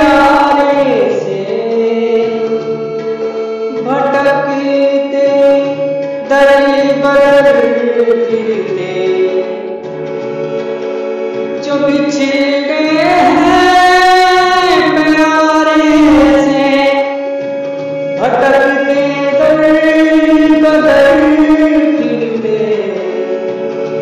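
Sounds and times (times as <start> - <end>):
person singing long held notes: 0.0 - 2.8, 3.7 - 9.8, 11.6 - 17.3, 18.2 - 23.7
instrumental backing: 0.0 - 24.0.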